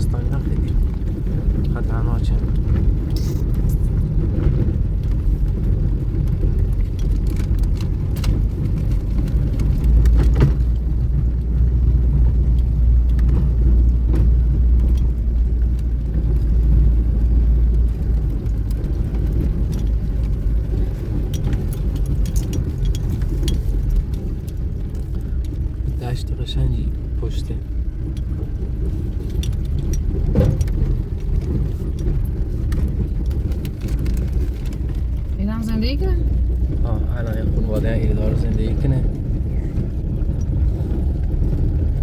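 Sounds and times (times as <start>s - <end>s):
car engine and road noise: 0.0s - 42.0s
knocks and rattles: 0.0s - 42.0s.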